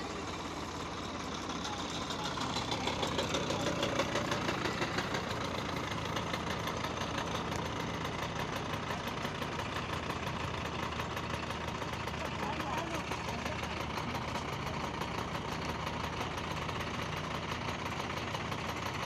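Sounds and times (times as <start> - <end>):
engine idling with knocking pulse: 0.0 - 19.0.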